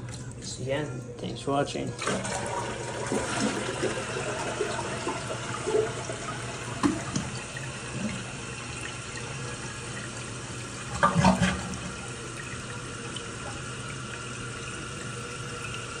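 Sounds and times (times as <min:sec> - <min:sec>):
water filling toilet bowl: 0:00.0 - 0:16.0.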